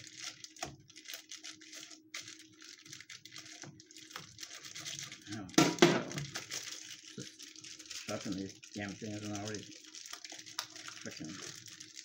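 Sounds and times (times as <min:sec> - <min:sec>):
plastic bag crinkling and tearing: 0:00.0 - 0:12.0.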